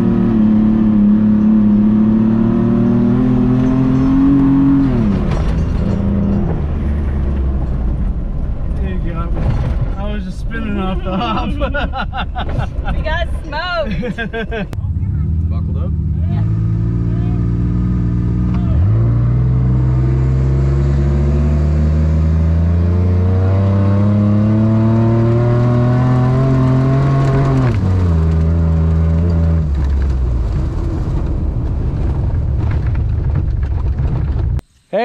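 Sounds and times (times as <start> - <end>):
vehicle engine revving: 0.0 - 9.9, 14.7 - 34.6
coasting rumble: 0.0 - 34.6.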